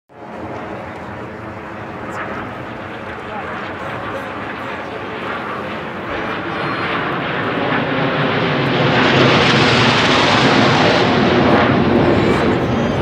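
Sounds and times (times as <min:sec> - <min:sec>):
jet planes roaring overhead: 0:00.1 - 0:13.0.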